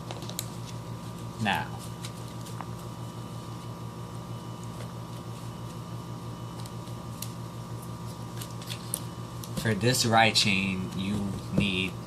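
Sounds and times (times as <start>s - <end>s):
steady pulsing hum: 0.0s - 12.0s.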